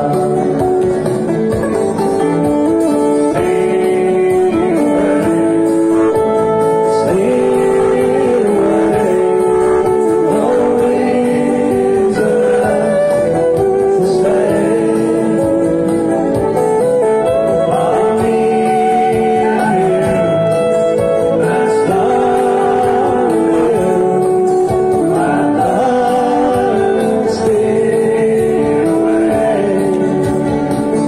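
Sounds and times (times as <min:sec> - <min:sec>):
acoustic guitars strumming: 0:00.0 - 0:31.0.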